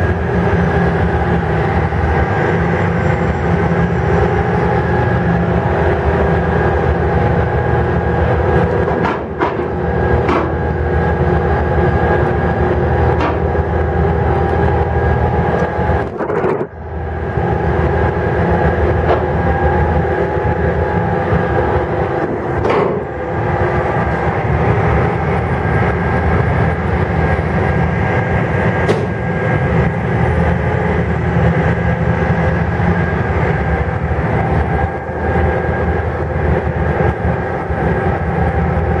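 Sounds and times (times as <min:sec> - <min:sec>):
ferry diesel engines droning: 0:00.0 - 0:39.0.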